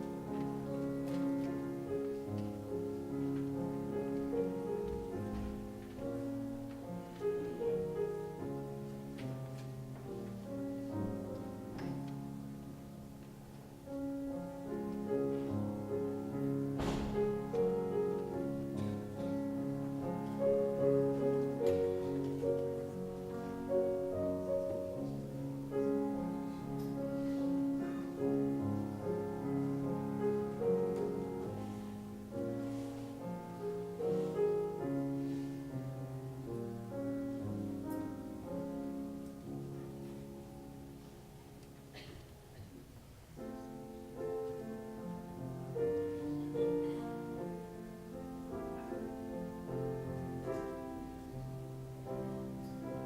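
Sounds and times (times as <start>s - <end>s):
slow piano music: 0.0s - 53.0s.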